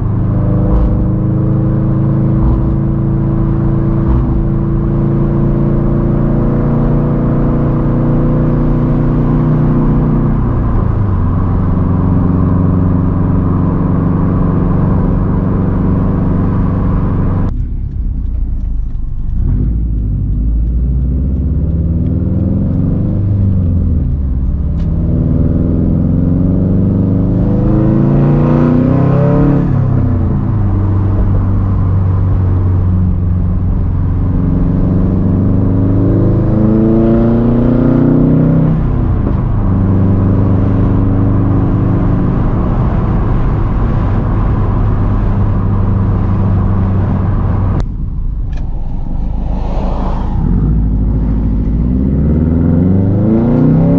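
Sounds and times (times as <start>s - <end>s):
car engine revving while driving: 0.0s - 47.9s, 50.4s - 53.9s.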